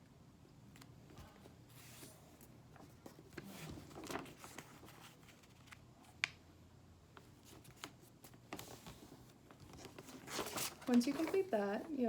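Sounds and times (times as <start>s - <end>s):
paper rustling and crinkling: 1.1s - 6.3s, 7.2s - 12.0s.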